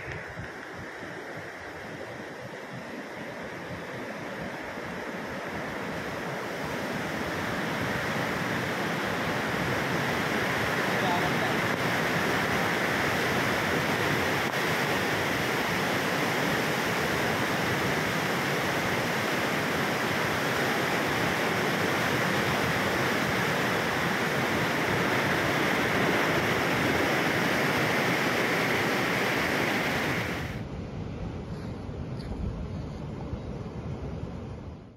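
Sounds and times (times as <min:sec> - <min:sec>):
floodwater rushing: 0:00.0 - 0:30.6.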